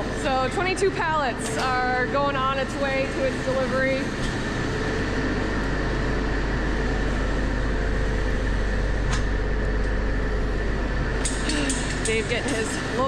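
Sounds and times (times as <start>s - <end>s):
machinery humming and whining: 0.0s - 13.0s.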